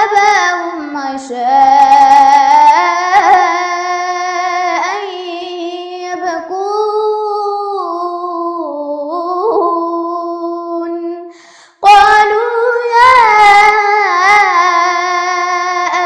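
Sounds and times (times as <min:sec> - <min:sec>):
girl chanting melodic recitation: 0:00.0 - 0:16.0.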